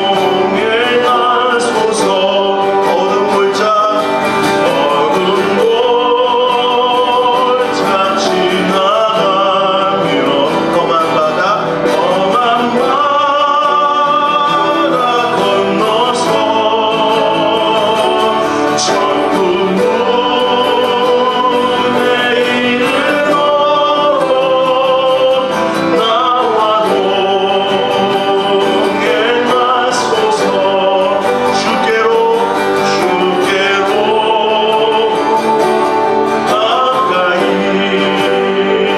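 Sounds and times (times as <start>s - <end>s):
man singing a hymn: 0.0s - 38.9s
strummed acoustic guitar: 0.0s - 38.9s.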